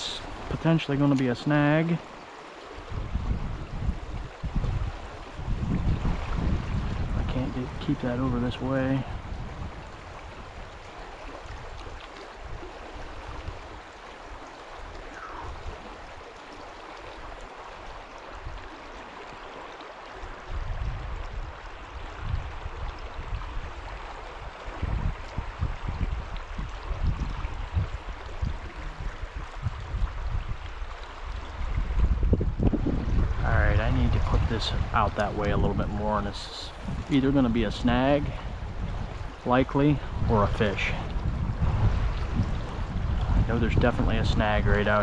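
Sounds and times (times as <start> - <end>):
stream water rushing: 0.0 - 45.0
low rumbling on microphone: 2.8 - 13.8, 14.7 - 18.6, 20.3 - 45.0.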